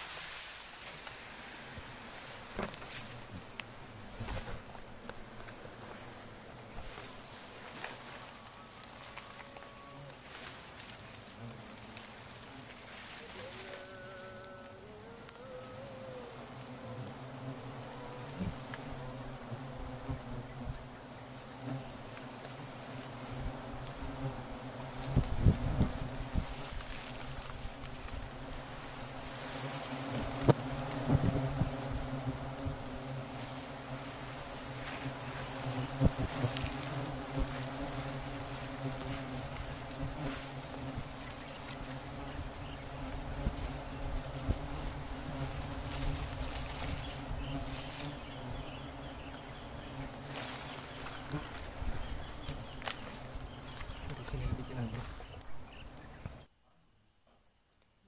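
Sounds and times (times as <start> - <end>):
bees buzzing: 0.0 - 56.5.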